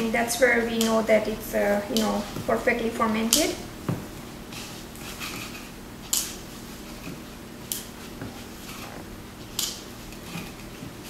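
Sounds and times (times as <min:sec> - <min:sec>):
hands kneading dough: 0:00.0 - 0:11.0.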